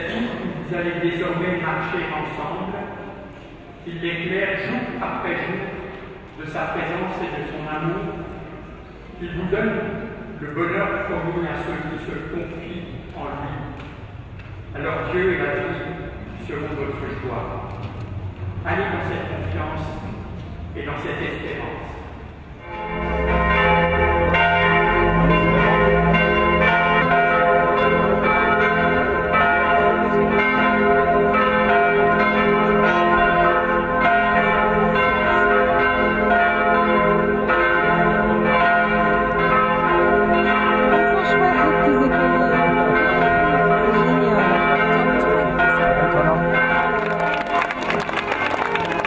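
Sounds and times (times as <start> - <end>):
church bells pealing: 0.0 - 49.0.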